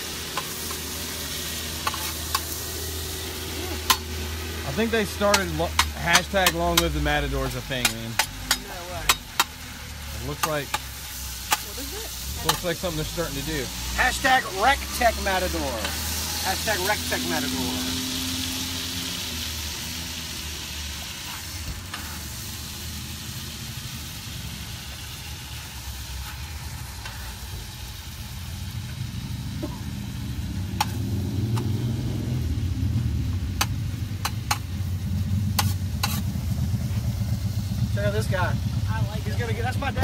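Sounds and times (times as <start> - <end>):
food sizzling in a pan: 0.0 - 40.0
low engine rumble: 0.0 - 40.0.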